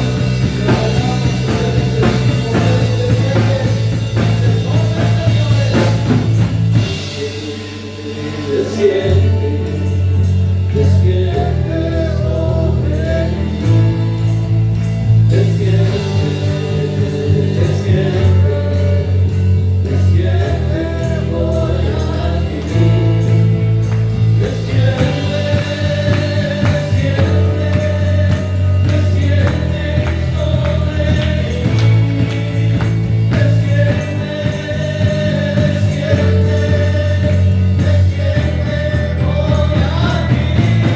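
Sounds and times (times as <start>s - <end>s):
band playing: 0.0s - 40.9s
long held bass notes: 0.0s - 40.9s
voices singing worship song: 0.0s - 40.9s.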